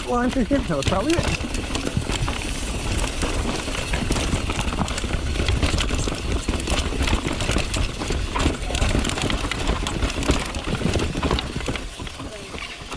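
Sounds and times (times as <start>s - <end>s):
bike clicks and rattles: 0.0s - 12.9s
tyres rolling over dirt and rocks: 0.0s - 12.9s
wind rumble on microphone: 0.0s - 12.9s.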